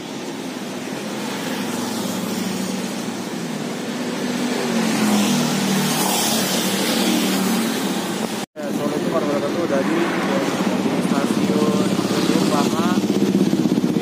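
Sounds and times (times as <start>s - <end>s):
steady road noise: 0.0s - 14.0s
vehicle engine passing: 0.3s - 14.0s.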